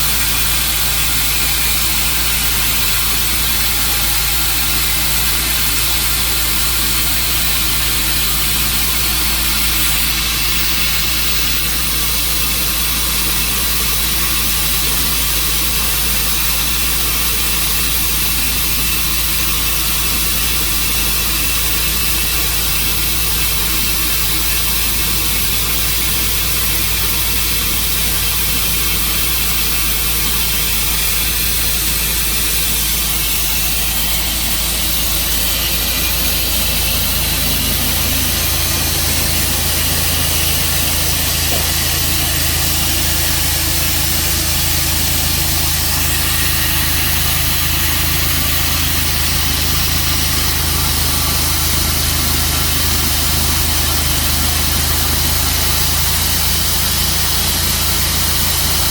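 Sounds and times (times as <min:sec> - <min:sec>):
sawmill engine humming: 0:00.0 - 0:58.9.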